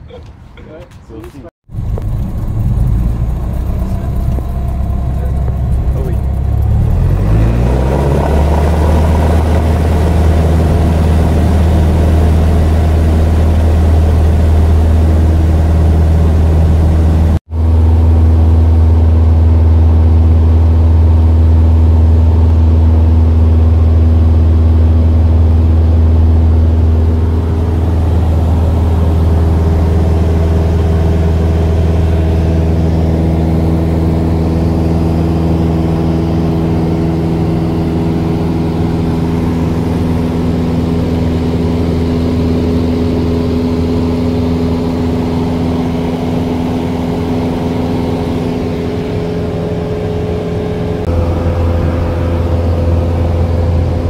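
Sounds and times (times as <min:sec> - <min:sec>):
propeller plane engine drone: 0:01.7 - 0:54.0.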